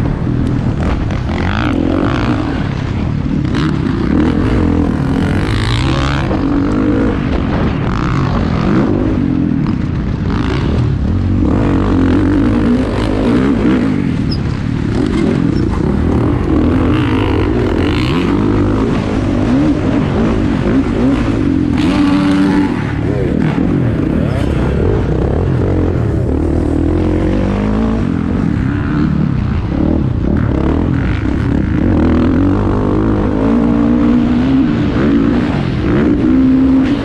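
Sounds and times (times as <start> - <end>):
motocross motorcycles revving: 0.0 - 37.0.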